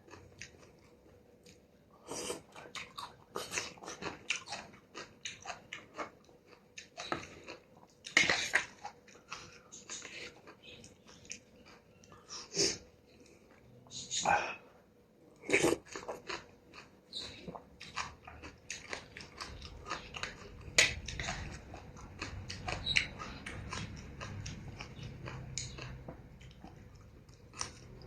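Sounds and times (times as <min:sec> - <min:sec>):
person chewing noodle soup: 0:00.0 - 0:13.7, 0:15.3 - 0:28.0.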